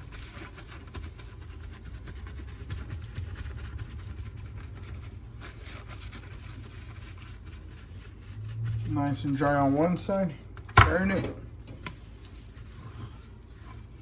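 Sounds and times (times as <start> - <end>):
paper towel rustling: 0.0 - 14.0
steady low hum: 1.3 - 14.0.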